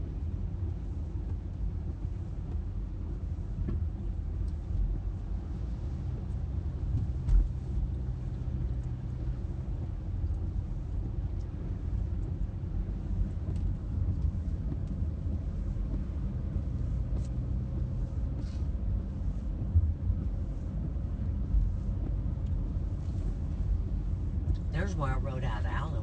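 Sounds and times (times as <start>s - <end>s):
car driving on wet road: 0.0s - 26.0s.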